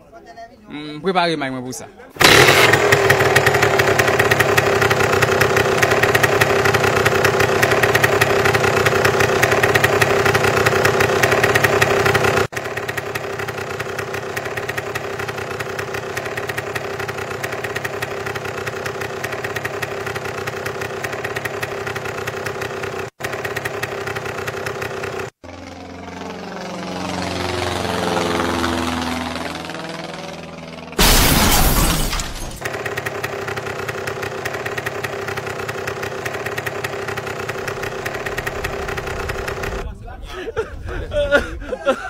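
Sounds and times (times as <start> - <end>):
motorcycle engine running: 2.2 - 31.1, 32.4 - 39.9.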